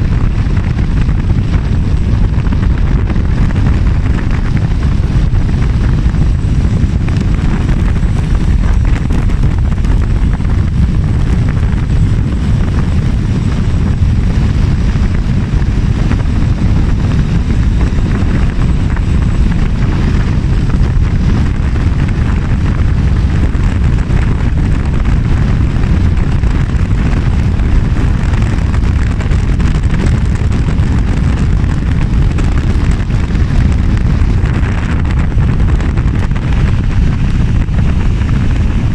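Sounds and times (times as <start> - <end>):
motorbike engine and road noise: 0.0 - 38.9
wind rushing over microphone: 0.0 - 38.9.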